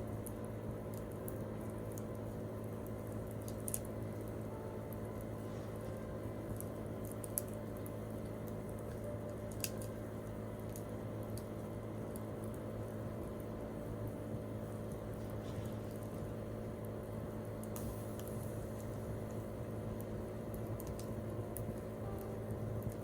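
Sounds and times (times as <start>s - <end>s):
campfire crackling and popping: 0.1s - 5.3s, 6.4s - 23.0s.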